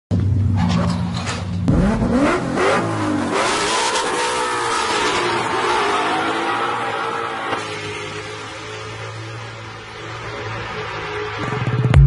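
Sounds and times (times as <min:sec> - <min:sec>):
car engine revving: 0:01.6 - 0:12.0.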